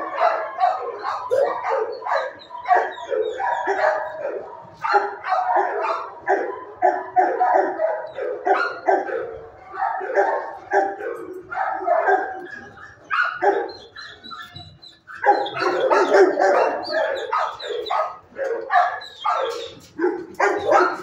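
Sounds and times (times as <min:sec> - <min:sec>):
dogs barking: 0:00.0 - 0:21.0.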